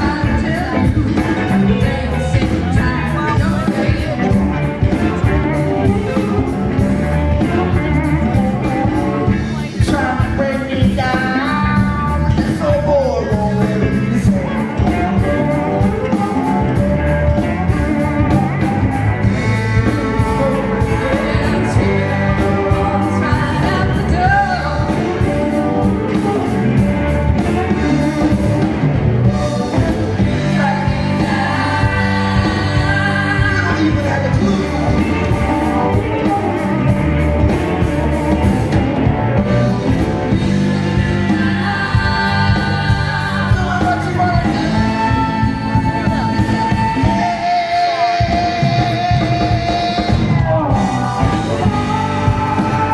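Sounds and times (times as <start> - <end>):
lead vocal singing: 0.0 - 52.9
rock band playing live: 0.0 - 52.9.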